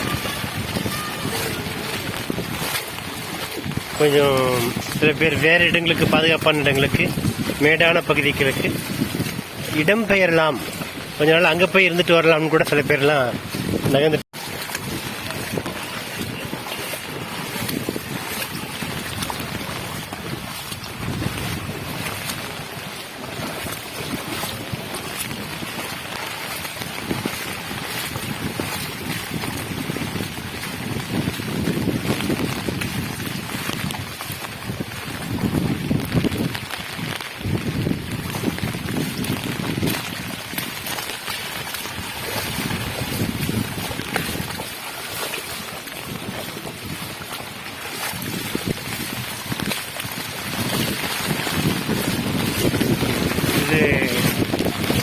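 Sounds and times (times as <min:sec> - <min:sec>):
water sloshing from wading: 0:00.0 - 0:55.0
wind buffeting microphone: 0:00.0 - 0:55.0.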